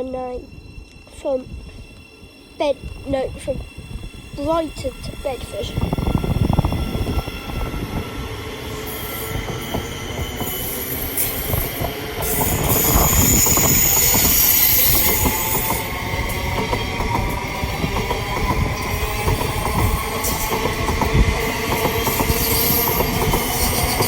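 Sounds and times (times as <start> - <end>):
passenger train passing: 0.0 - 24.0
wheels squealing on rails: 0.0 - 24.0.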